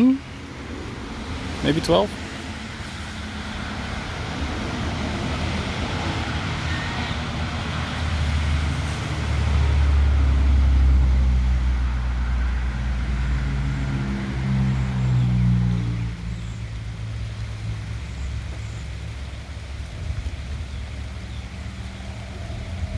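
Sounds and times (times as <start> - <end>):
motor vehicle engine rumble: 0.0 - 22.9.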